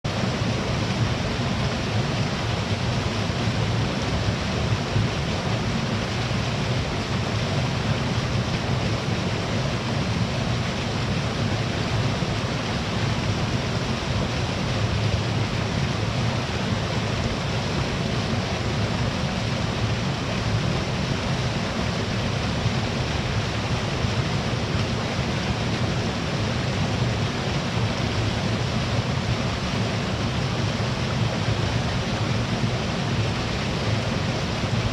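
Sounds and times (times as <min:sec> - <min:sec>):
waterfall and stream rushing: 0:00.1 - 0:34.9.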